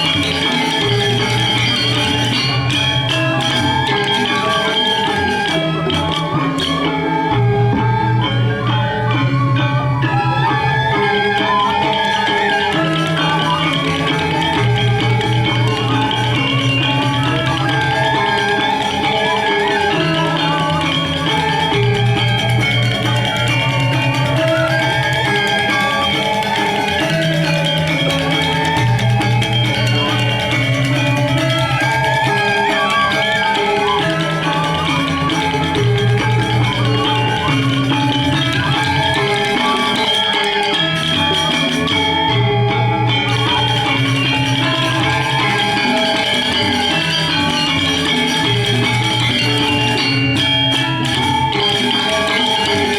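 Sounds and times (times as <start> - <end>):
gamelan ensemble playing: 0.0 - 52.9.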